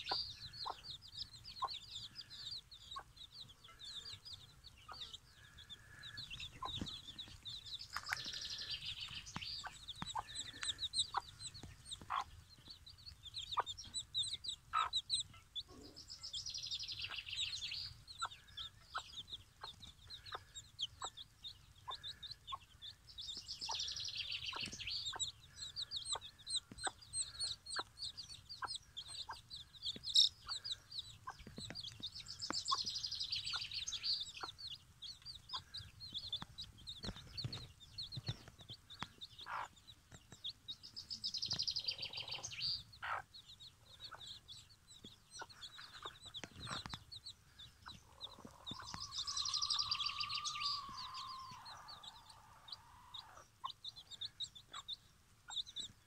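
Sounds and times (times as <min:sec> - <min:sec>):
hen clucking softly: 0:00.0 - 0:39.8, 0:41.5 - 0:56.0
chicks peeping: 0:00.0 - 0:56.0.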